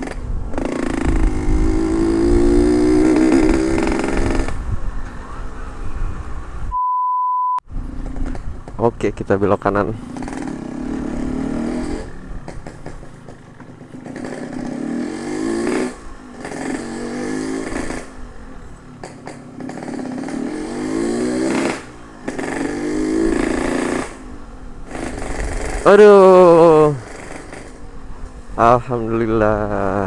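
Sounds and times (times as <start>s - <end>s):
two-stroke engine revving: 0.0s - 4.8s, 7.8s - 30.0s.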